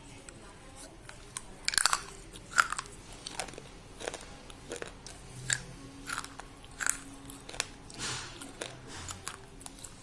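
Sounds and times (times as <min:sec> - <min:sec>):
chewing brittle crunches: 0:01.0 - 0:10.0.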